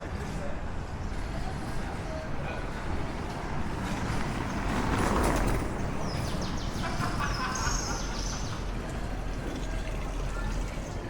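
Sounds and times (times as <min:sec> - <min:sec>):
low hum of traffic: 0:00.0 - 0:11.0.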